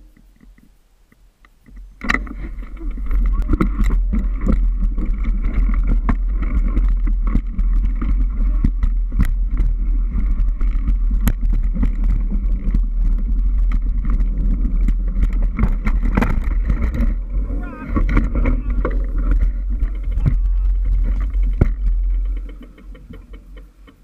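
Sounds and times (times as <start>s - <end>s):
bike rattling and knocking: 1.6s - 24.0s
wind rumble on microphone: 1.6s - 24.0s.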